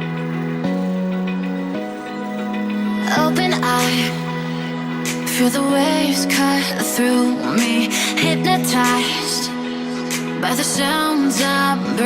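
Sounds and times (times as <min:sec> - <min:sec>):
soft synth chords: 0:00.0 - 0:12.0.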